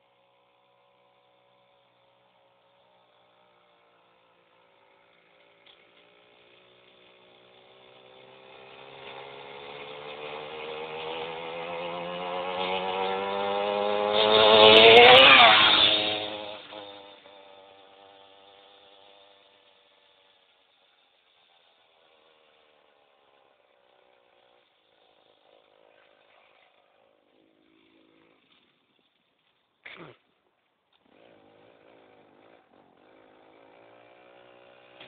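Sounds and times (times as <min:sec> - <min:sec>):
go-kart engine passing by: 0:00.0 - 0:29.8, 0:30.4 - 0:35.0.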